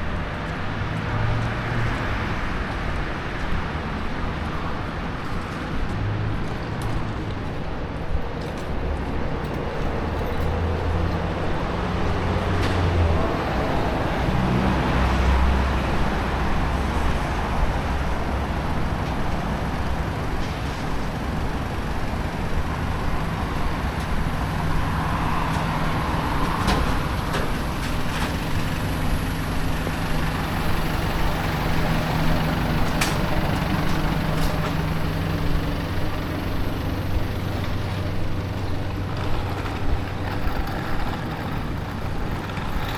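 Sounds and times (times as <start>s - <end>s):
heavy vehicle engine humming: 0.0s - 42.9s.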